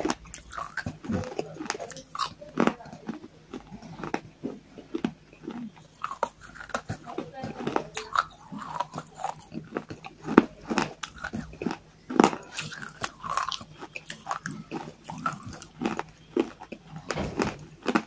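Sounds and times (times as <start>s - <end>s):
biting and chewing clay crunches: 0.0s - 18.0s.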